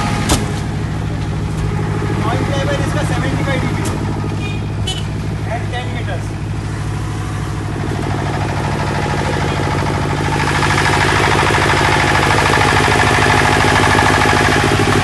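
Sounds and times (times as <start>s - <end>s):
diesel generator running: 0.0s - 15.0s.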